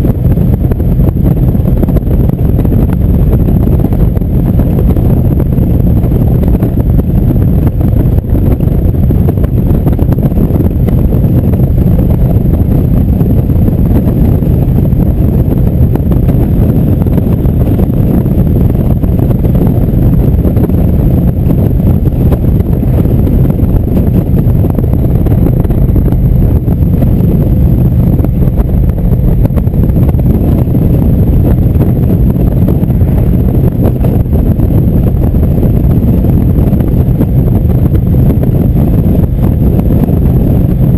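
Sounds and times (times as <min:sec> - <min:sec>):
motorcycle engine drone: 0:00.0 - 0:40.9
wind rushing over microphone: 0:00.0 - 0:40.9.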